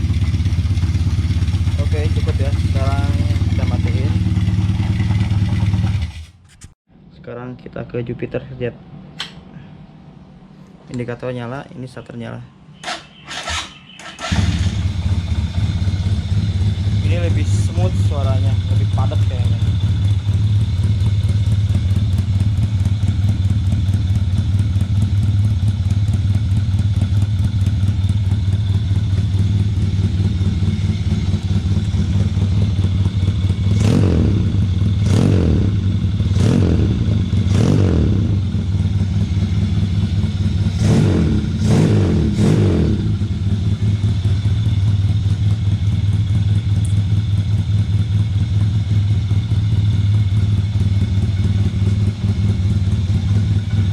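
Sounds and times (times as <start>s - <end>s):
moped engine idling and revving: 0.0s - 6.4s, 12.8s - 53.9s.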